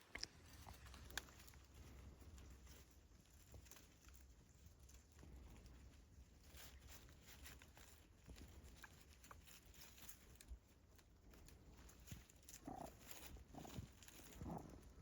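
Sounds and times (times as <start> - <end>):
faint rustling: 0.0 - 15.0.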